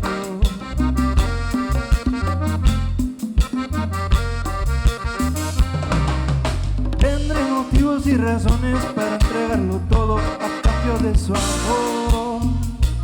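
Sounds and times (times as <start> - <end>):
lead melody line: 0.0 - 13.0
regular drum hits: 0.0 - 13.0
steady bass: 0.0 - 13.0.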